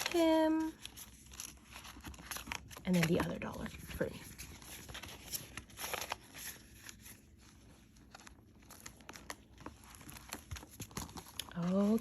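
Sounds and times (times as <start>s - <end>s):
paper bills rustling: 0.0s - 12.0s.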